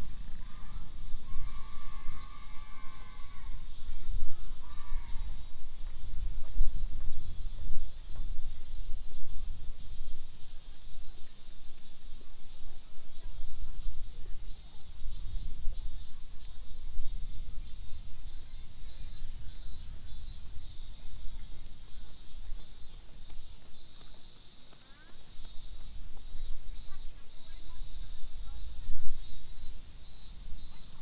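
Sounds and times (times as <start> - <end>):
cicadas buzzing: 0.0 - 31.0.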